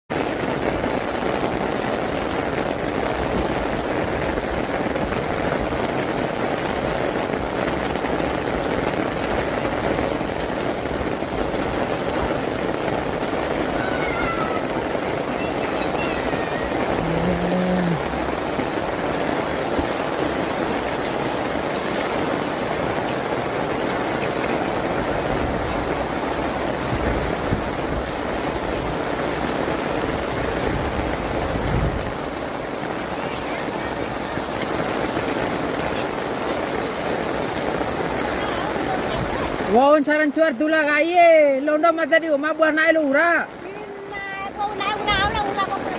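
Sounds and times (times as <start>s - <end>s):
heavy rain falling: 0.1s - 45.9s.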